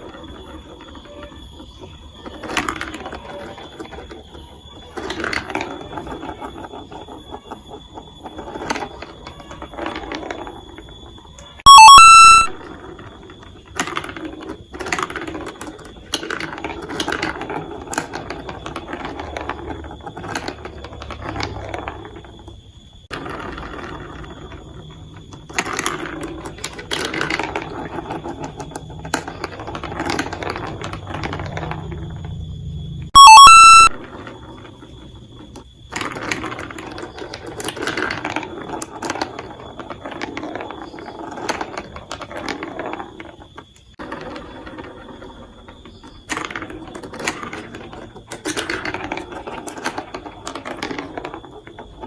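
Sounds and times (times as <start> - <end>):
marbles rattling down plastic tracks: 0.0 - 32.5, 33.1 - 52.0.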